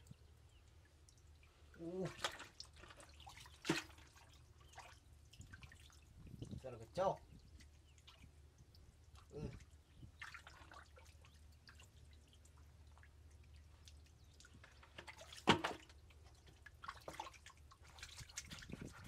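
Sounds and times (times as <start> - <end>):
water splashes and drips: 0.0 - 19.0.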